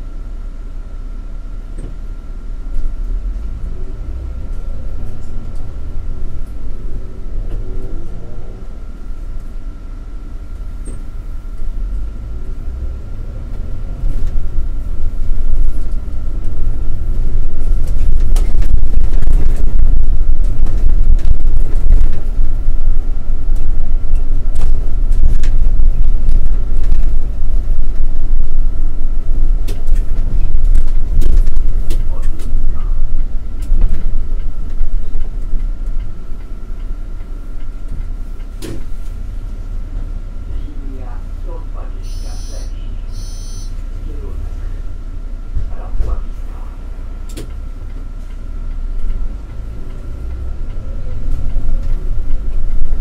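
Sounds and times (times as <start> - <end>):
bus engine and road rumble: 0.0 - 53.0
faint steady whine: 0.0 - 53.0.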